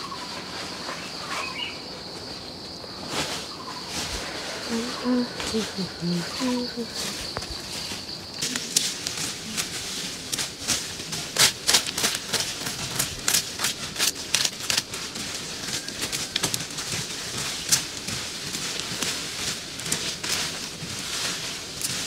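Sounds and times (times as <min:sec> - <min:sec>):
dry leaves and twigs crackling: 0:00.0 - 0:22.0.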